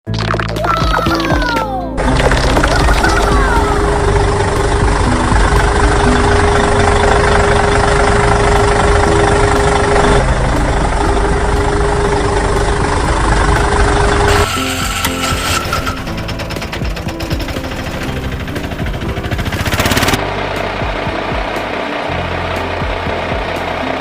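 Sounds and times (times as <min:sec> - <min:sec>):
loud engine running: 0:02.0 - 0:24.0
steady hum: 0:03.4 - 0:24.0.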